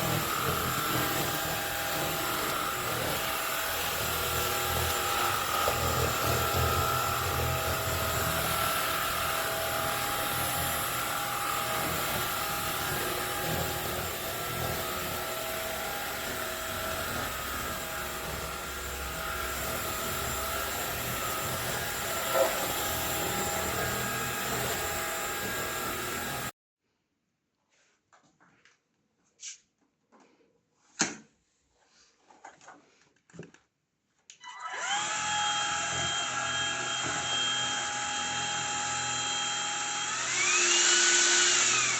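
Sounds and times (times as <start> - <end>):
stick vacuum cleaner running: 0.0 - 26.5, 34.7 - 41.9.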